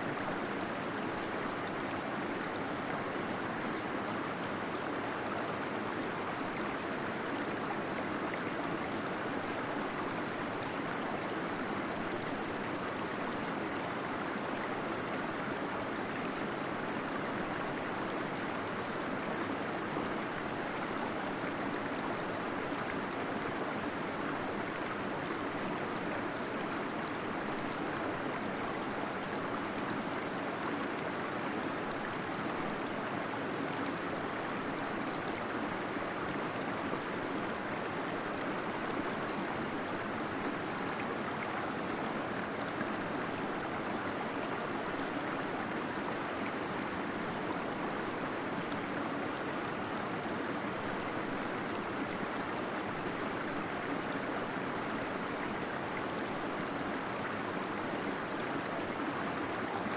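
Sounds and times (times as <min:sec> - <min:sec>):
small waterfall in a cave: 0:00.0 - 0:59.9.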